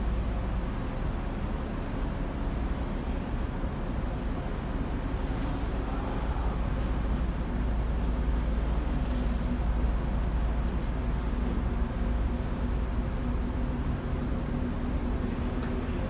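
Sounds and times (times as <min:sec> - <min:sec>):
faint hum: 0:00.0 - 0:16.0
ship rumble and hiss at sea: 0:00.0 - 0:16.0.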